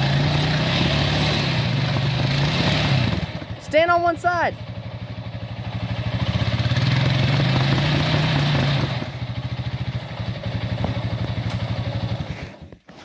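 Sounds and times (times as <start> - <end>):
atv engine revving under load: 0.0 - 12.8.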